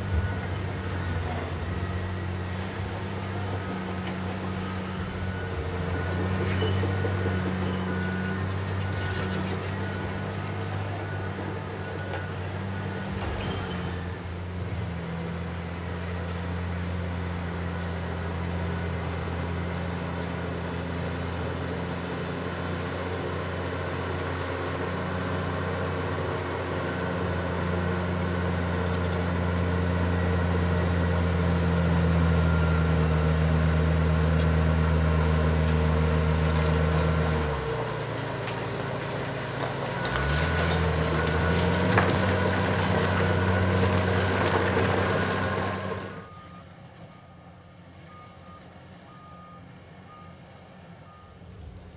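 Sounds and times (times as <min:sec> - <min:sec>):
heavy diesel machinery engine drone: 0:00.0 - 0:51.9.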